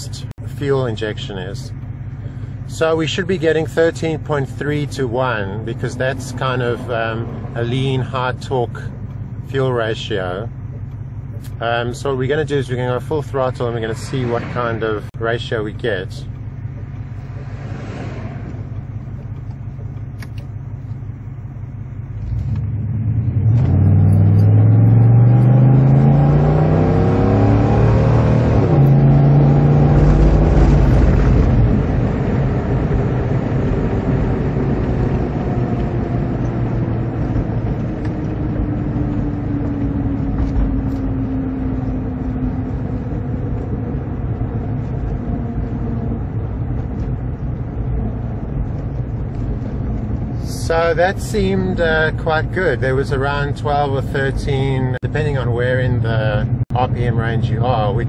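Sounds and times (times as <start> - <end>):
engine accelerating hard: 0.7 - 10.4, 11.3 - 20.0, 22.1 - 58.0.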